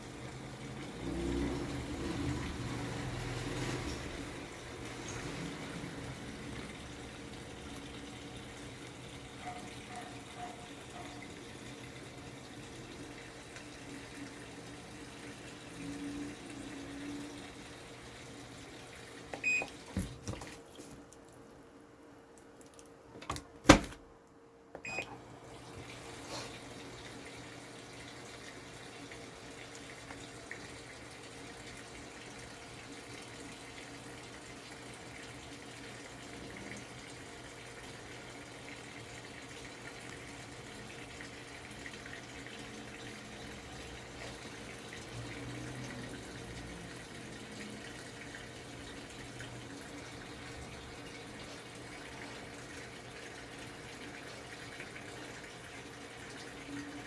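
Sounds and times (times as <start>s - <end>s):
water filling washing machine: 0.0s - 21.4s, 24.8s - 57.0s.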